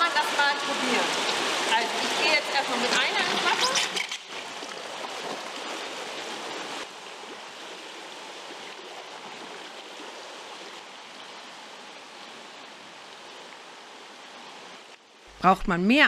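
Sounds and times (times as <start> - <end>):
pool water rushing around swimmer: 0.0 - 15.4.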